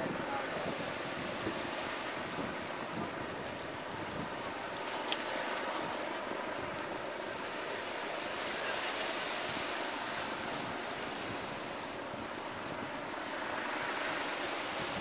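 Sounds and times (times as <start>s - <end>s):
small waves on rocky shore: 0.0s - 15.0s.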